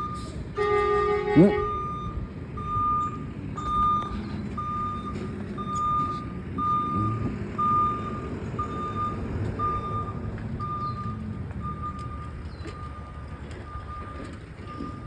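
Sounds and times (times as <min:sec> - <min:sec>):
truck engine rumble: 0:00.0 - 0:15.0
truck reversing alarm beeping: 0:00.0 - 0:15.0.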